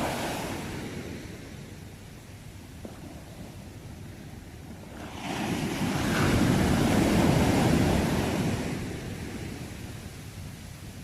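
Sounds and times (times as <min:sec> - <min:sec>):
ocean waves breaking: 0:00.0 - 0:10.3.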